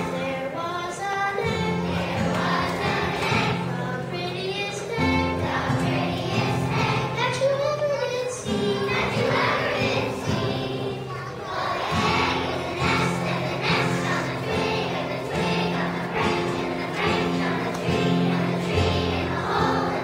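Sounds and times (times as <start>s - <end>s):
children's chorus singing: 0.0s - 20.0s
instrumental accompaniment: 0.0s - 20.0s.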